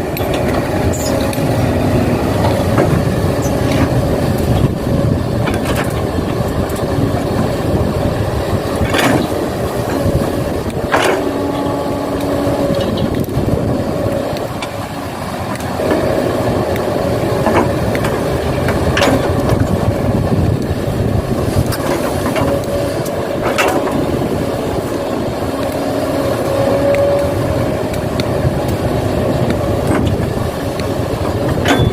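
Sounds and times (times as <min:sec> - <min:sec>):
excavator motor running: 0:00.0 - 0:31.9.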